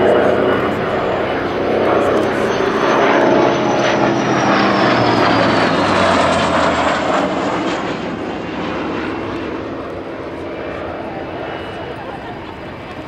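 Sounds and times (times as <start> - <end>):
jet whine: 0.0 - 13.0
propeller aircraft engine: 0.0 - 13.0.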